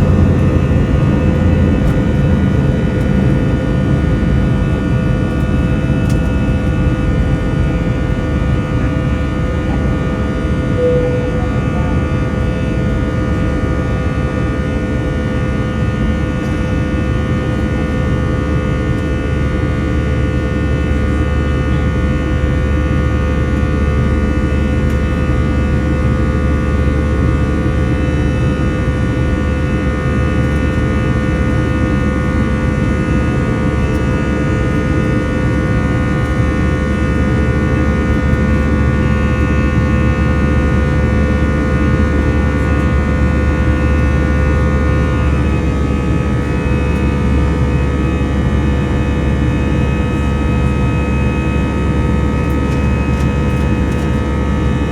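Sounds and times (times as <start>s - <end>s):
jet engines running in cabin: 0.0s - 54.9s.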